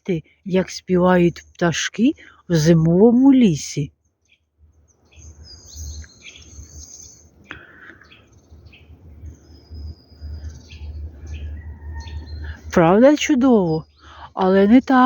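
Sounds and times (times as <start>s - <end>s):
songbirds chirping and singing: 0.0s - 15.0s.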